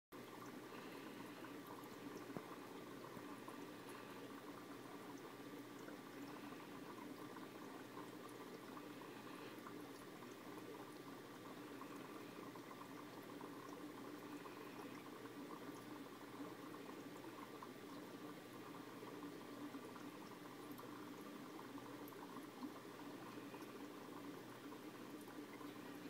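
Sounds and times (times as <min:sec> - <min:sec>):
aquarium water bubbling: 0:00.1 - 0:26.0.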